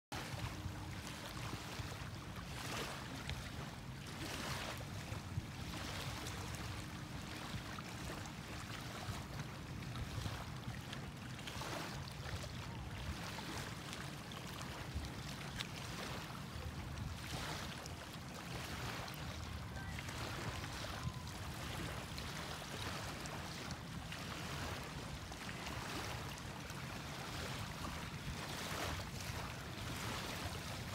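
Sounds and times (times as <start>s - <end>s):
small waves washing on shore: 0.2s - 30.9s.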